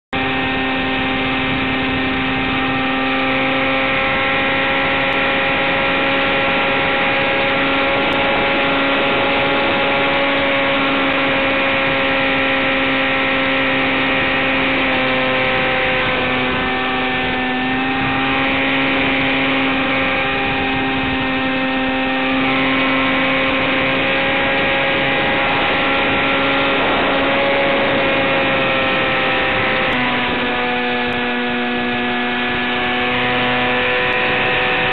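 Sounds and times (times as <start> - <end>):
model plane motor humming: 0.2 - 34.9.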